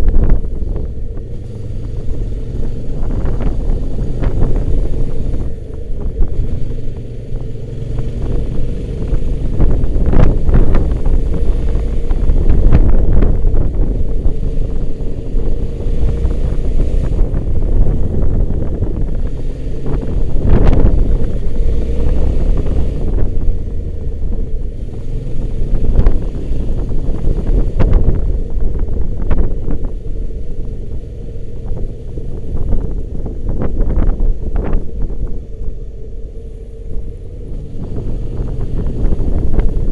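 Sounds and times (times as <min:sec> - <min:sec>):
motorcycle engine droning: 0:00.0 - 0:39.9
wind rumbling over microphone: 0:00.0 - 0:39.9.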